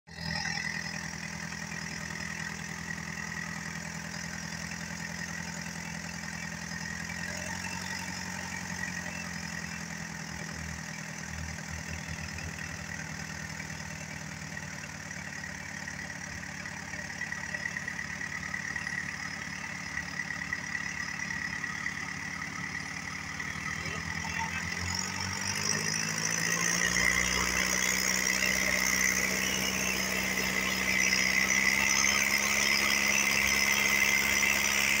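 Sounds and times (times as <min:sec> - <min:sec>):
boat diesel engine running: 0:00.1 - 0:35.0.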